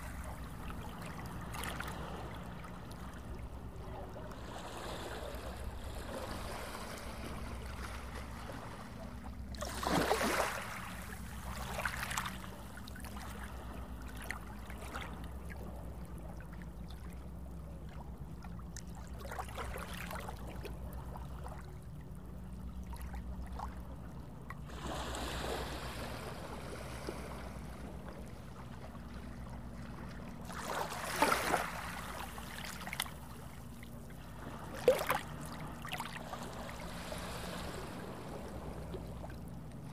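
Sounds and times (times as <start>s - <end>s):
small waves washing on shore: 0.0s - 22.0s, 24.5s - 39.9s.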